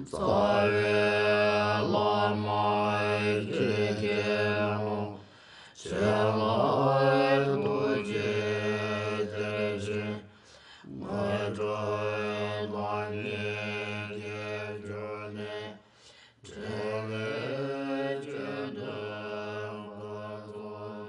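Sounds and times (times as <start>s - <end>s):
low chanting voice: 0.0s - 21.0s.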